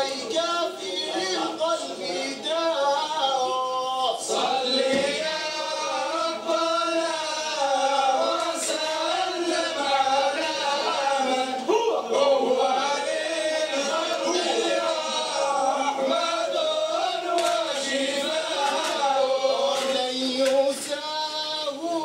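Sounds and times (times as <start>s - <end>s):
men chanting together: 0.0s - 22.0s.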